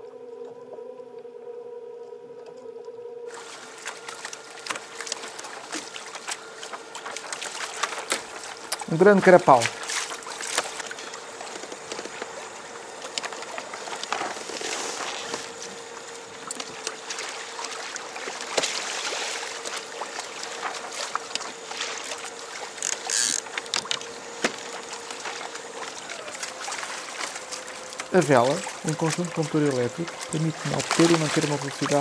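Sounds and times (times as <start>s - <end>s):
electric motor whine: 0.0s - 32.0s
water splashing against hull: 3.3s - 32.0s.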